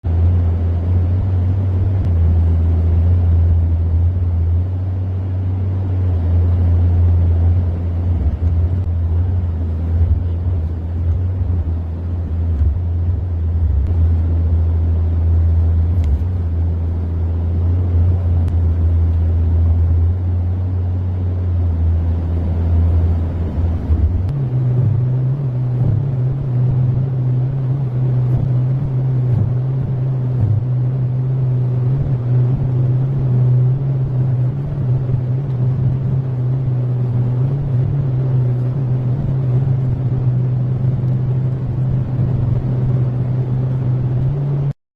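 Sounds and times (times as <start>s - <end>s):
heavy diesel engine running: 0.0s - 44.8s.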